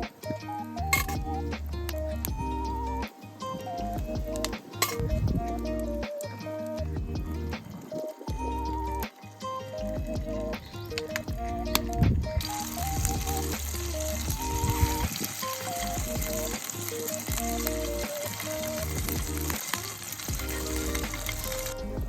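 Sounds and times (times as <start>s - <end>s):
background music: 0.0s - 22.0s
steak sizzling: 0.0s - 22.0s.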